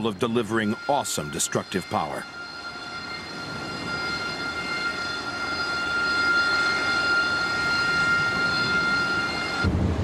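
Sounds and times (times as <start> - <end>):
jet engine whine: 0.0 - 10.0
jet exhaust rushing: 0.0 - 10.0.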